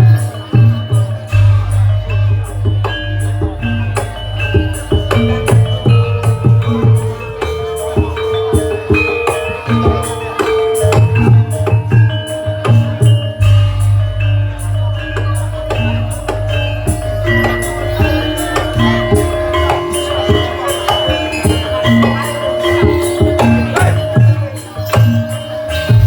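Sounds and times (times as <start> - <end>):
held steady notes: 0.0 - 26.0
percussion hits: 0.0 - 26.0.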